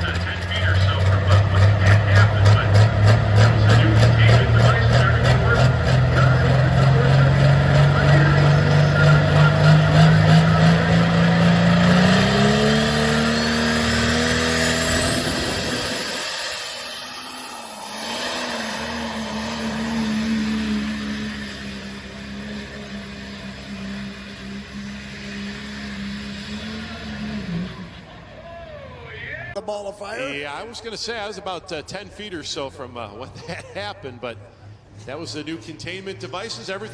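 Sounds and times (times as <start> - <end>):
diesel engine running flat out: 0.0 - 29.6
quieter steady engine note: 0.0 - 29.6.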